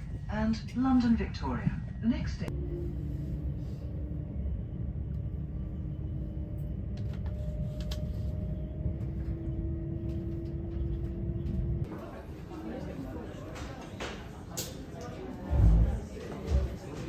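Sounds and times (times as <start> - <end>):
train rumbling: 0.0 - 12.2, 15.4 - 17.0.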